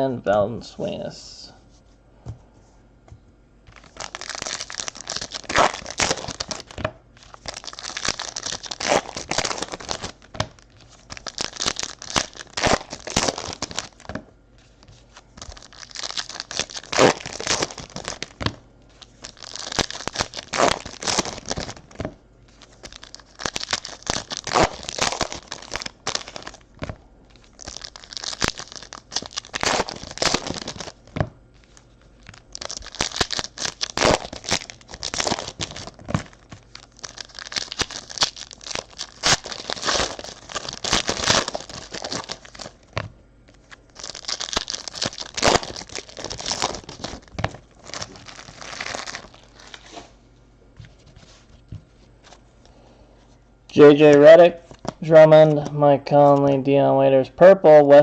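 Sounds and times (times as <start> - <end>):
foil wrappers ripping and crinkling: 3.7 - 50.2, 53.7 - 55.1.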